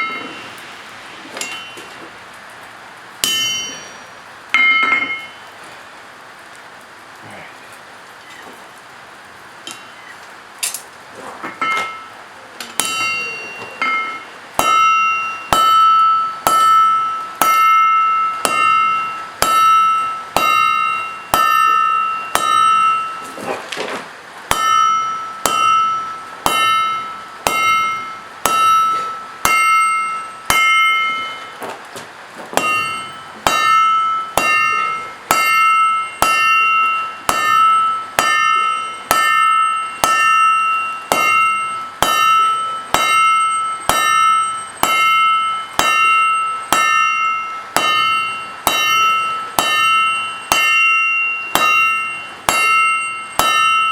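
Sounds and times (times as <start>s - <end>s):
hammer ringing on anvil: 0.0s - 0.6s, 1.4s - 2.0s, 3.2s - 5.5s, 11.5s - 12.2s, 12.8s - 23.5s, 24.5s - 31.7s, 32.6s - 53.9s.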